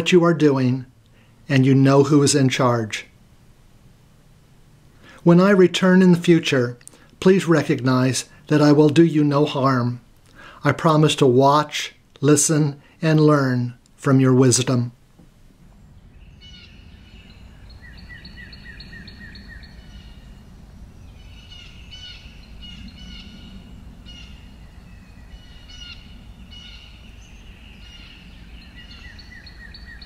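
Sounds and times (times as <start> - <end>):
low outdoor rumble: 0.0 - 30.0
songbirds chirping: 0.0 - 30.0.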